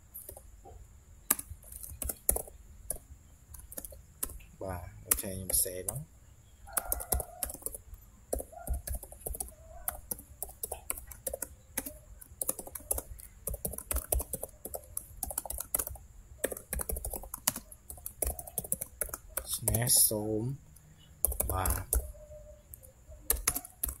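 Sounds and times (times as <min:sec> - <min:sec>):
laptop keyboard typing: 0:00.2 - 0:00.5, 0:01.2 - 0:06.1, 0:06.7 - 0:20.2, 0:21.2 - 0:24.0.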